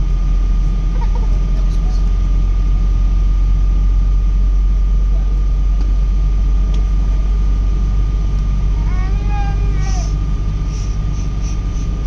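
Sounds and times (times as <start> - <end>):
high engine whine: 0.0 - 12.0
jet engine low rumble: 0.0 - 12.0.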